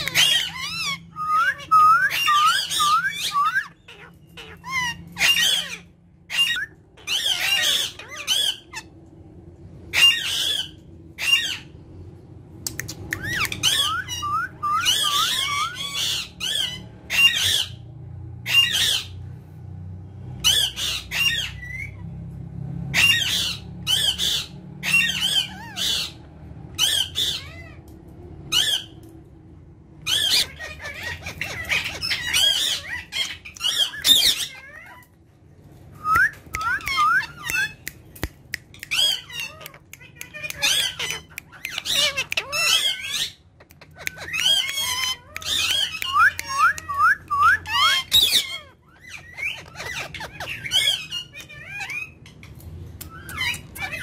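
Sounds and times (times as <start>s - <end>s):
parrots squawking: 0.0s - 9.1s, 9.7s - 11.8s, 12.8s - 19.3s, 20.4s - 22.2s, 22.8s - 29.2s, 29.9s - 54.0s.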